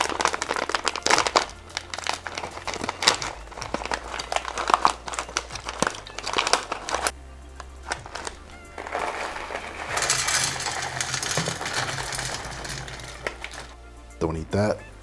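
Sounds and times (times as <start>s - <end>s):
plastic foil pouch crinkling: 0.0s - 13.8s
pouch tearing: 0.0s - 13.8s.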